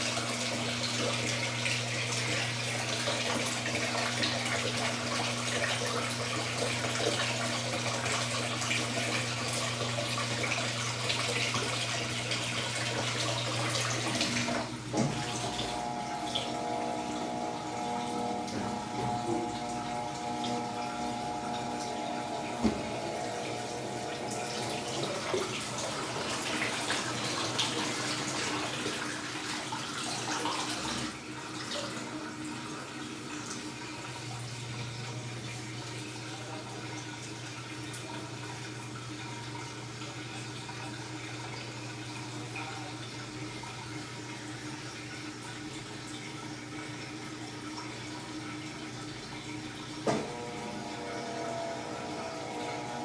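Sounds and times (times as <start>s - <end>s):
pump hum: 0.0s - 53.0s
washing machine filling with water: 0.0s - 53.0s.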